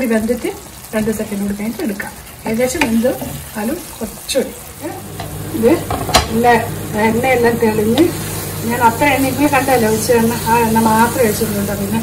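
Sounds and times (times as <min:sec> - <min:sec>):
curry sizzling: 0:00.0 - 0:12.0.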